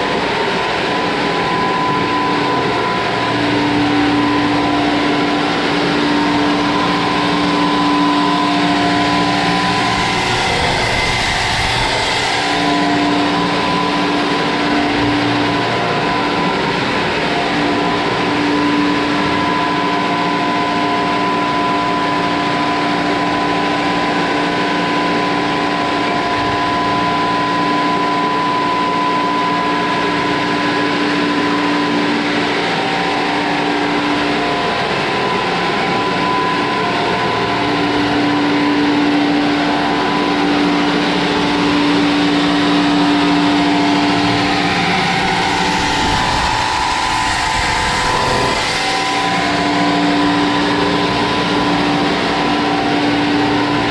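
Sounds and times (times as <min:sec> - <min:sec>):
low hum: 0:00.0 - 0:24.1, 0:25.5 - 0:53.9
high whine: 0:00.0 - 0:53.9
sawmill machinery drone: 0:00.0 - 0:53.9.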